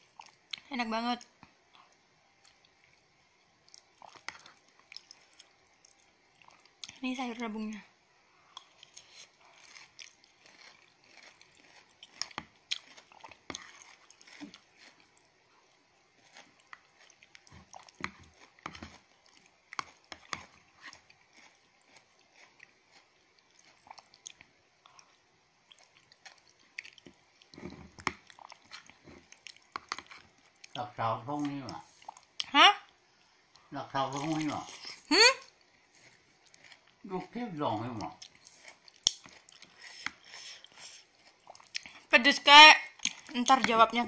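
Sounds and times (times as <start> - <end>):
person chewing food: 0.0 - 0.7, 1.4 - 7.0, 8.4 - 30.8, 31.4 - 37.1, 37.9 - 42.1, 42.9 - 43.8.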